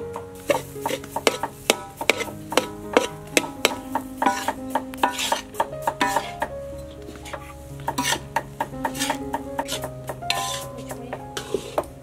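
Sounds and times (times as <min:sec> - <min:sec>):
soft background music: 0:00.0 - 0:12.0
metal spoon scraping pan: 0:00.5 - 0:06.4, 0:07.4 - 0:08.2, 0:08.8 - 0:11.9.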